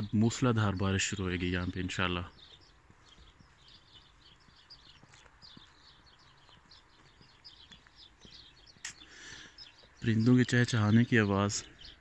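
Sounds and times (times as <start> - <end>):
faint small birds chirping: 0.0 - 12.0.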